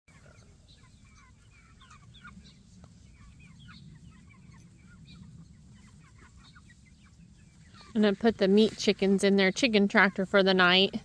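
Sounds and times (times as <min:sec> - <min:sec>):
chickens chirping and clucking: 0:00.1 - 0:11.0.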